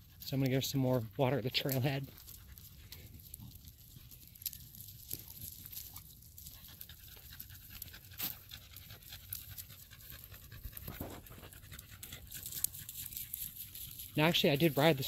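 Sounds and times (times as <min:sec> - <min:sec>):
dog panting: 0:00.0 - 0:04.3, 0:05.4 - 0:15.0.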